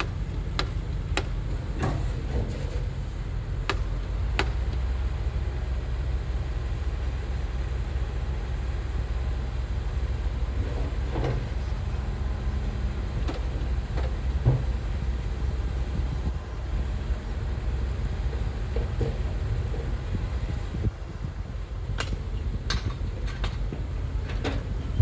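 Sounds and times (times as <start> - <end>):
heavy machine engine rumbling: 0.0 - 25.0.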